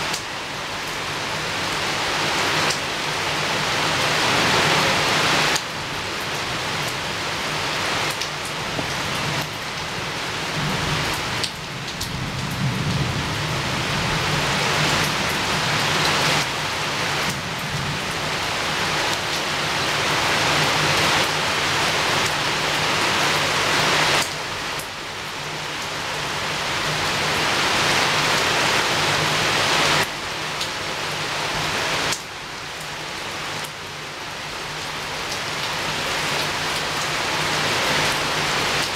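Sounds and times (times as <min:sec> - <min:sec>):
heavy rain on a window: 0:00.0 - 0:38.9.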